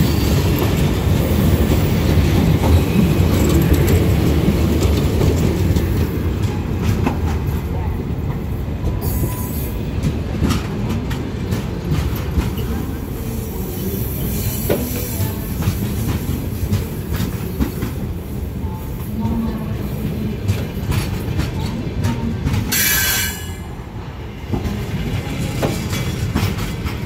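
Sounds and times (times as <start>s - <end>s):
train coaches rolling past: 0.0s - 27.0s.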